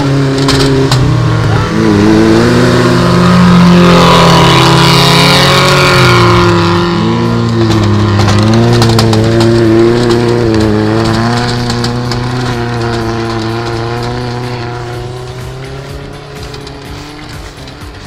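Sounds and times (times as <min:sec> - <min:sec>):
off-road truck engines revving: 0:00.0 - 0:18.0.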